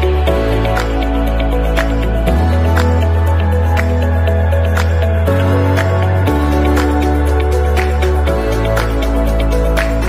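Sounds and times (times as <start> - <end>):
bass notes under soft chords: 0.0 - 10.0.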